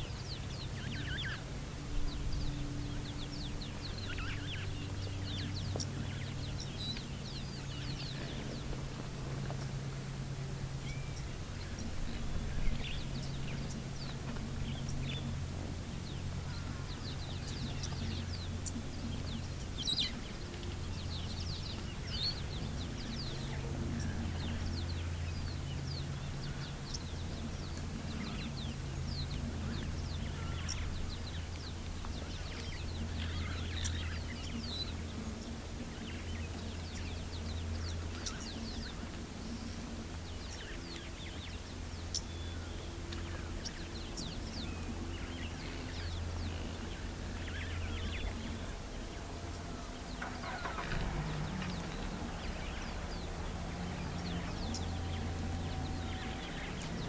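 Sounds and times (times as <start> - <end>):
steady low hum: 0.0 - 57.0
wild birds chirping: 0.0 - 57.0.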